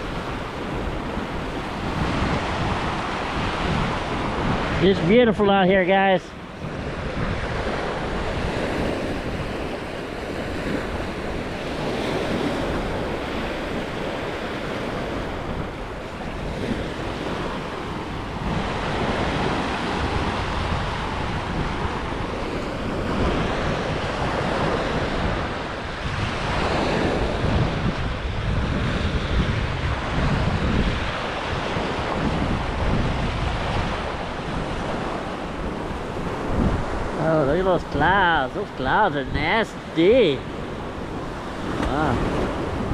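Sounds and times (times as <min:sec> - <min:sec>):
sea waves washing onto beach: 0:00.0 - 0:42.9
wind buffeting microphone: 0:00.0 - 0:42.9.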